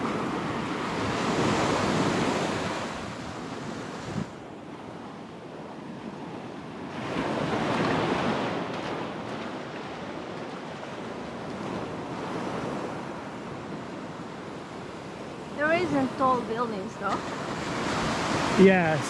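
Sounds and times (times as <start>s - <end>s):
ocean waves crashing on beach: 0.0s - 19.0s.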